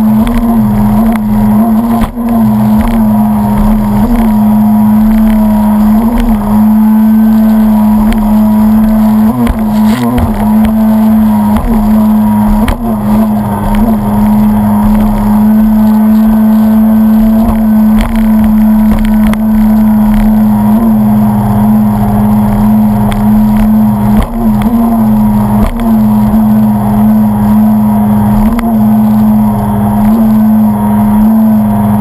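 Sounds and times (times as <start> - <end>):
jet ski engine at high revs: 0.0 - 32.0.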